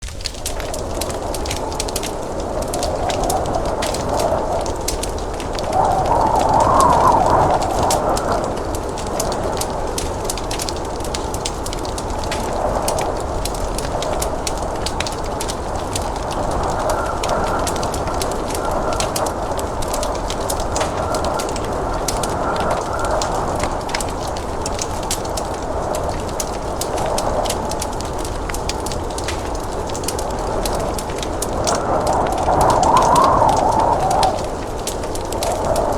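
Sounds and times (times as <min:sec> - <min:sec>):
blizzard wind: 0:00.0 - 0:35.9
fire crackling and popping: 0:00.0 - 0:35.9.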